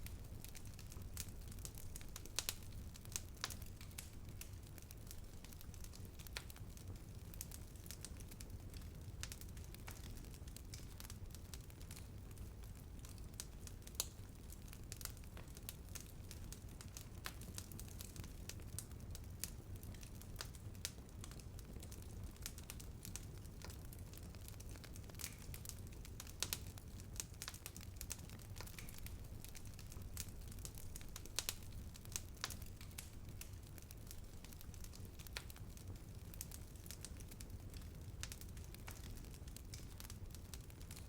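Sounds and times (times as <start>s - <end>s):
fire crackling and popping: 0.0s - 41.0s.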